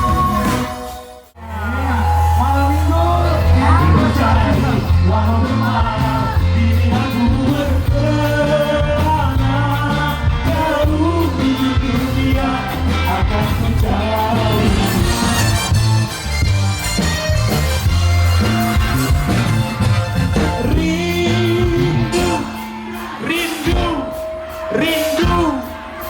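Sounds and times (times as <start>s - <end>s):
person singing: 0.0s - 15.7s, 20.4s - 26.0s
rock band playing: 0.0s - 26.0s
heavy bass line: 1.3s - 22.6s.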